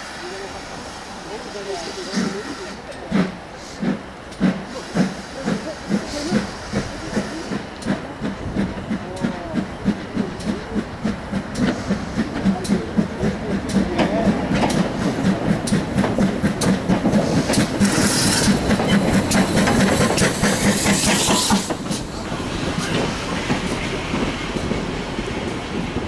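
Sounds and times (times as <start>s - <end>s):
loud hiss of steam: 0.0s - 26.0s
steam locomotive exhaust chuffing: 0.0s - 26.0s.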